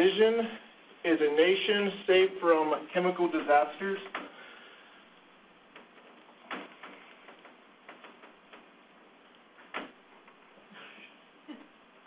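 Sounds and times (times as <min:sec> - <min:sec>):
low room hiss: 0:00.0 - 0:12.0.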